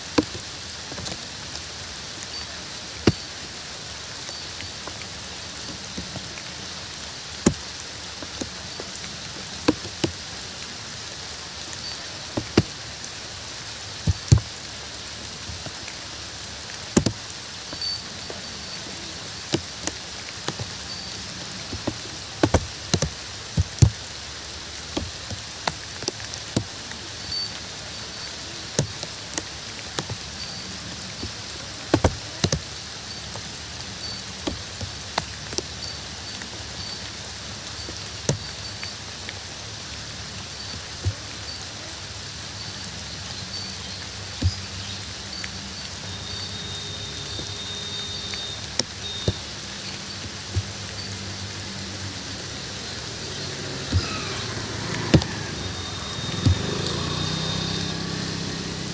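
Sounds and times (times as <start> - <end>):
heavy raindrops striking: 0.0 - 58.9
steady rain hissing: 0.0 - 58.9.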